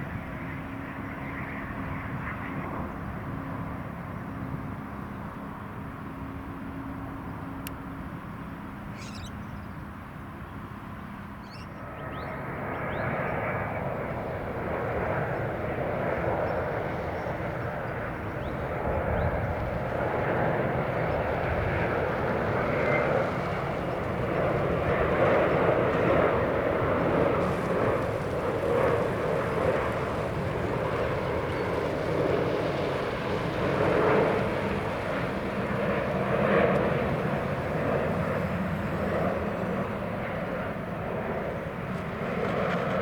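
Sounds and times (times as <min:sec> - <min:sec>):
jet airliner engines roaring: 0:00.0 - 0:43.0.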